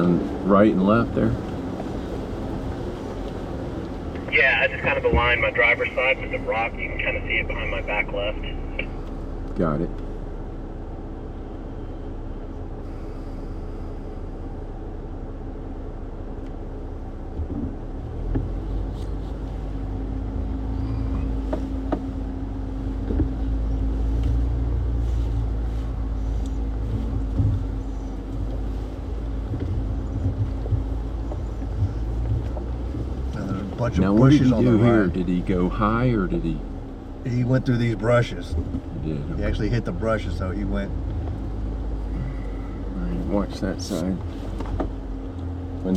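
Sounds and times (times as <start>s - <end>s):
engine rumbling under load: 0.0s - 45.9s
steady low drone: 2.4s - 45.9s.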